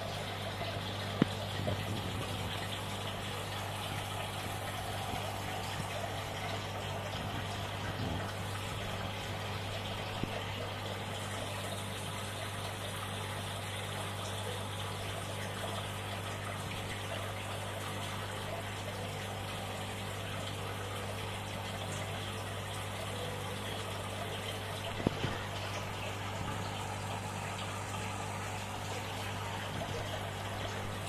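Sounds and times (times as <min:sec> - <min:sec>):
aquarium filter bubbling water: 0:00.0 - 0:31.0
constant low hum: 0:00.0 - 0:31.0.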